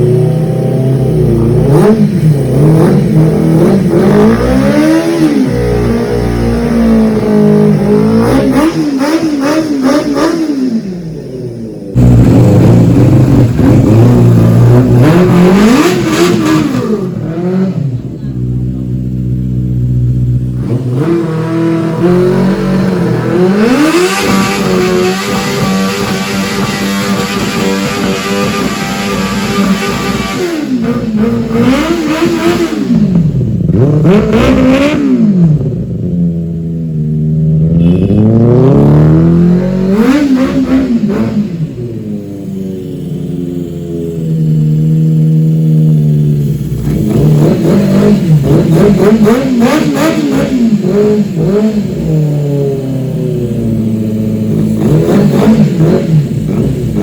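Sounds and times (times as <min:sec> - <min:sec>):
motorcycle engine revving hard: 0:00.0 - 0:57.0.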